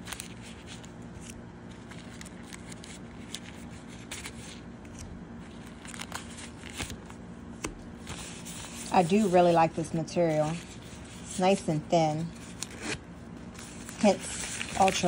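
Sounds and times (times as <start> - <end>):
cards rustling against fabric wallet: 0.0 - 15.0.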